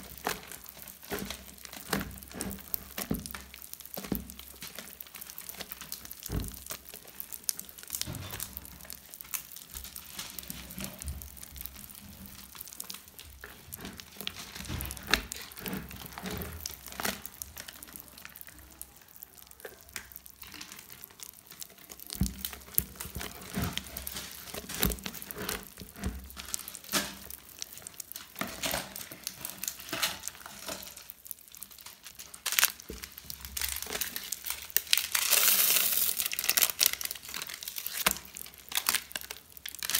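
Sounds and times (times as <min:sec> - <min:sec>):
slime with beads crackling: 0:00.0 - 0:39.9.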